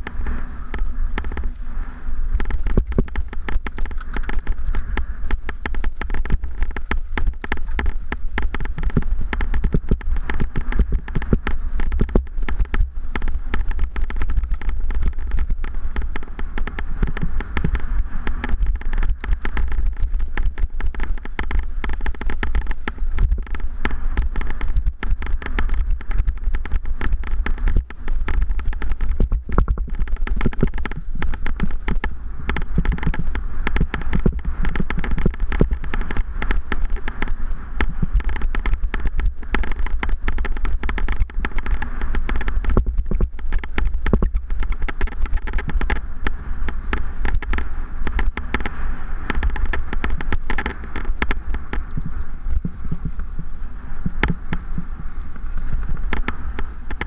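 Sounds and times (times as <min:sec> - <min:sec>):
bike rattling over stony trail: 0:00.0 - 0:57.0
wind buffeting microphone: 0:00.0 - 0:57.0.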